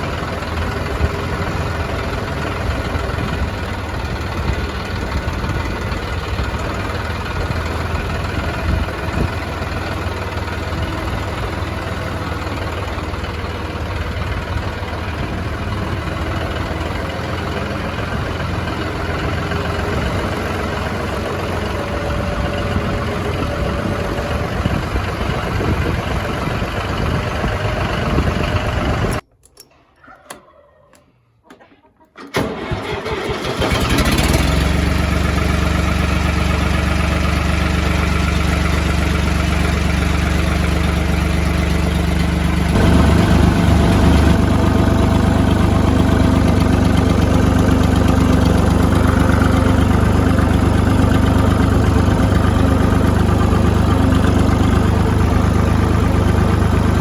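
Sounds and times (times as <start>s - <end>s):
engine running: 0.0s - 29.2s, 32.3s - 57.0s.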